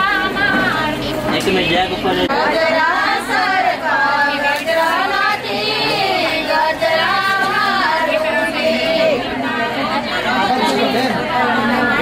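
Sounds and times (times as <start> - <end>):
women singing: 0.0 - 1.3, 2.3 - 12.0.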